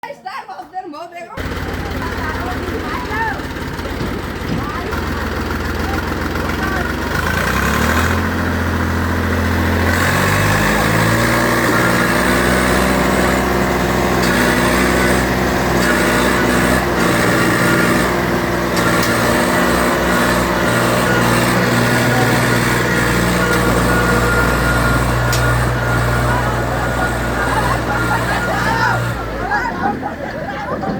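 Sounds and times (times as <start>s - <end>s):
tractor diesel engine revving: 1.4s - 30.9s.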